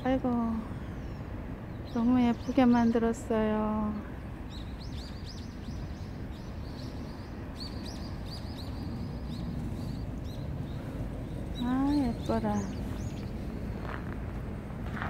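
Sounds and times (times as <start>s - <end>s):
small birds chirping: 0.0s - 14.4s
low outdoor background noise: 0.0s - 15.0s.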